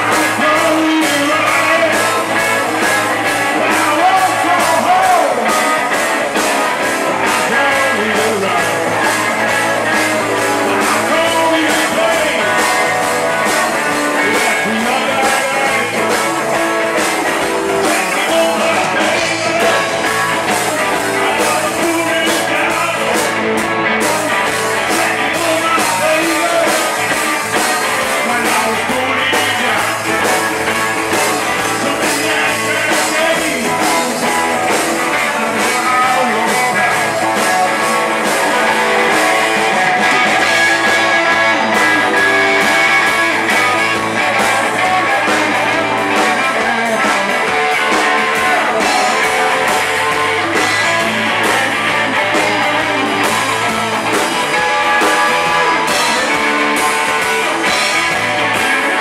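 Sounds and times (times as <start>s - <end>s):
drums: 0.0s - 59.0s
electric guitars: 0.0s - 59.0s
person singing: 0.0s - 59.0s.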